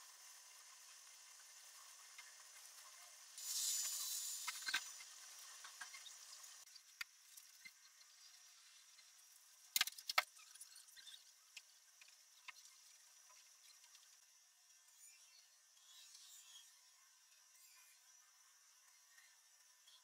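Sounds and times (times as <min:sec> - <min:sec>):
small clicks and ticks: 0:00.0 - 0:20.0.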